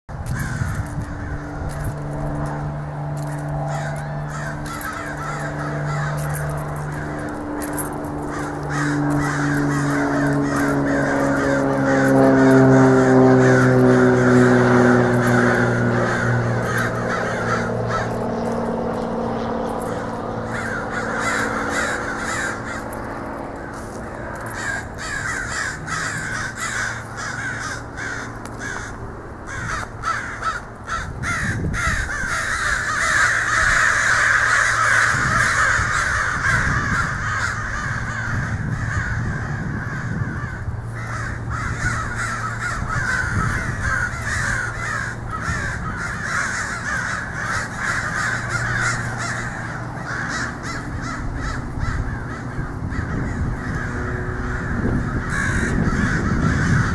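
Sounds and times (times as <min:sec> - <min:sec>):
crows cawing: 0:00.2 - 0:56.9.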